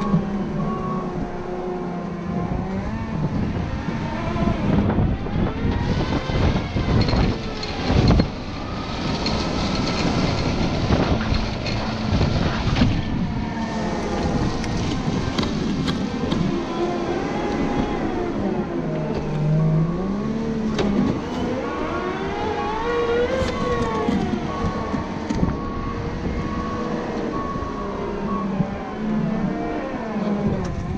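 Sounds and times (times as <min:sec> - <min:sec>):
diesel engine working hard: 0:00.0 - 0:30.9
snow plow grinding: 0:00.0 - 0:30.9.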